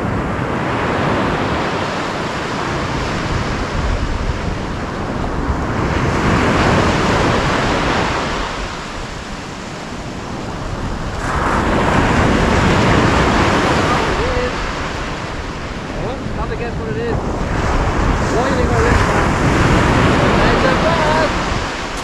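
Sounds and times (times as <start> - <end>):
surf breaking on a sandy beach: 0.0 - 22.0.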